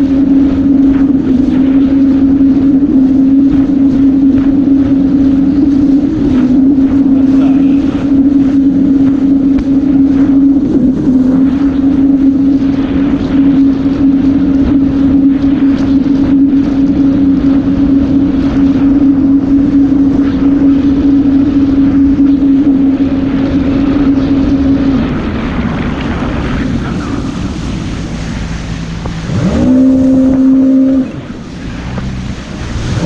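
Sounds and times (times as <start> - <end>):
personal watercraft engine running: 0.0 - 33.0
wind on microphone: 0.0 - 33.0.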